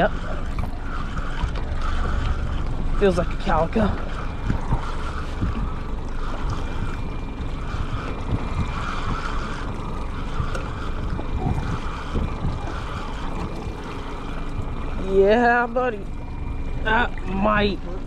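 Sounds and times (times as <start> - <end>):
fishing reel whirring: 0.0 - 18.0
wind buffeting microphone: 0.0 - 18.0.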